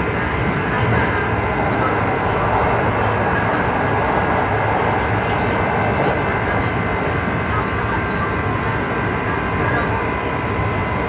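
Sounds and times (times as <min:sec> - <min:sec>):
train car rumbling: 0:00.0 - 0:11.0.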